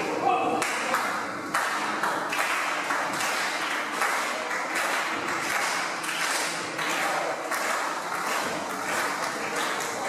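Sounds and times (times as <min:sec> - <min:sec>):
crowd clapping: 0:00.6 - 0:10.0.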